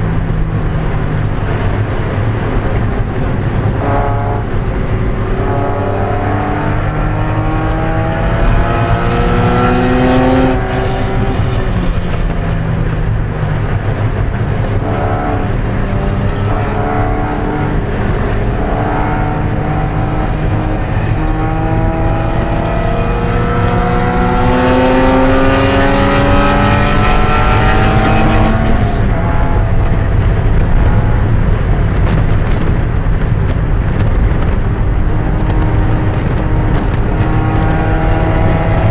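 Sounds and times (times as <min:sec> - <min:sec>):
car engine revving through gears: 0:00.0 - 0:38.9
tyre and road noise: 0:00.0 - 0:38.9.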